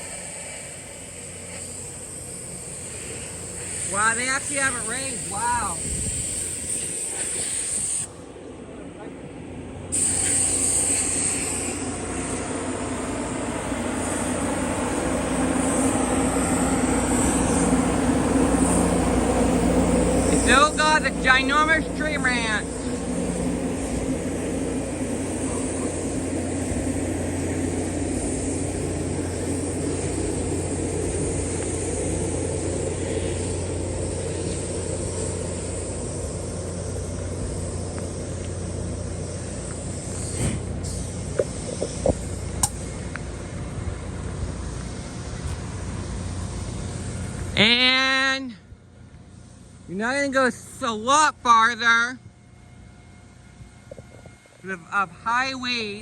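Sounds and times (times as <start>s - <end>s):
high thin whine: 0.0s - 56.0s
machinery drone: 0.0s - 56.0s.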